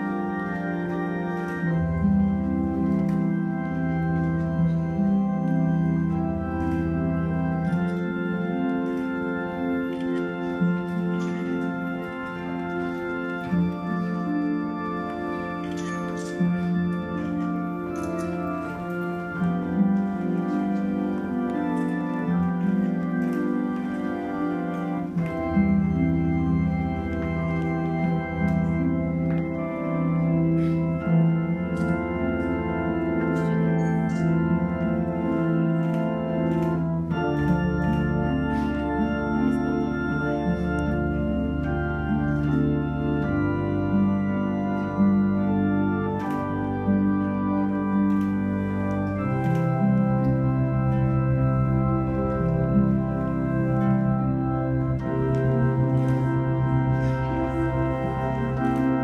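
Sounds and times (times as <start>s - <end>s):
organ chords: 0.0s - 59.0s.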